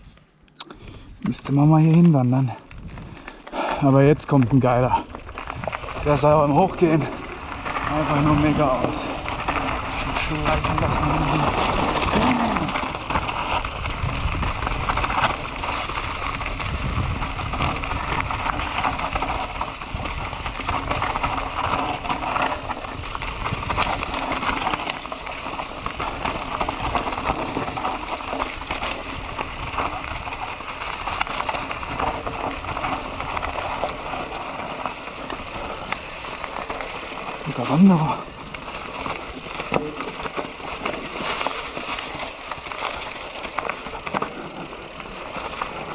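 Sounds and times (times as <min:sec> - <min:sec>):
bike tyres crunching on trail: 0:00.0 - 0:45.9
bike rattling over bumps: 0:01.1 - 0:45.9.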